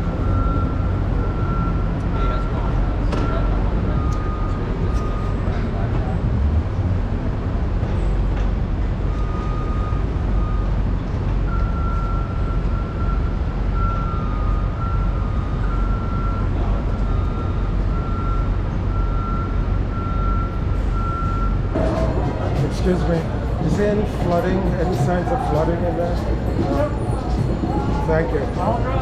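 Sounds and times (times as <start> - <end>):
heavy city traffic rumble: 0.0 - 29.0.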